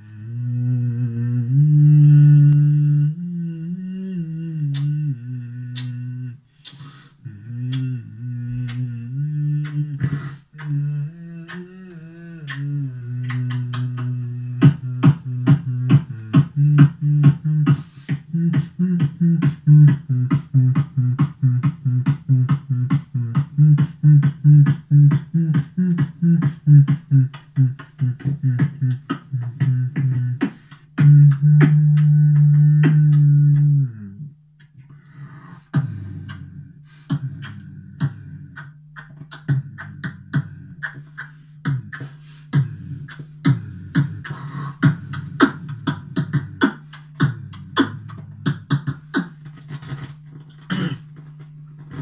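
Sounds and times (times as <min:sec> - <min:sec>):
beatboxing into a microphone: 0:00.0 - 0:52.0
low drone: 0:00.0 - 0:52.0.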